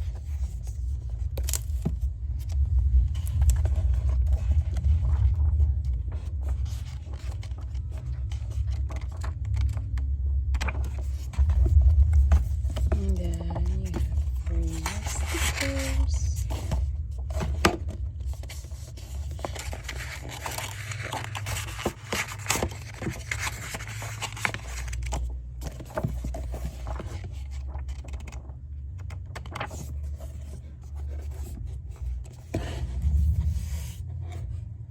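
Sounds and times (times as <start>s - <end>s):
paper rustling and scraping: 0.0s - 34.7s.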